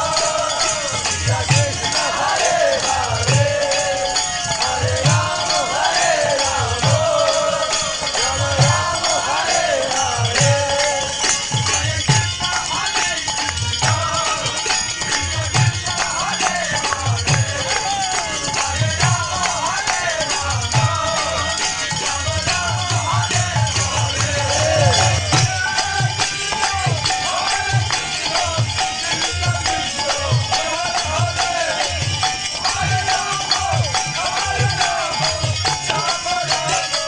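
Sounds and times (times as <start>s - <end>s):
hand cymbals jangling: 0.0s - 37.0s
voices chanting: 0.0s - 37.0s.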